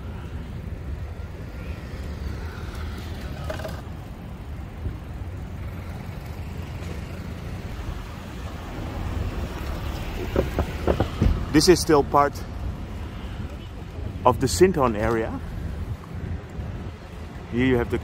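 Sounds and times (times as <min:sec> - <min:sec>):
low rumble of vehicle: 0:00.0 - 0:18.0
traffic and road noise: 0:00.0 - 0:18.0.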